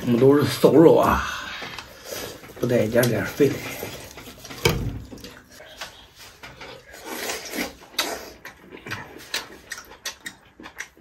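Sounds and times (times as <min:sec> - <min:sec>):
wet chewing and lip-smacking: 0:01.7 - 0:11.0.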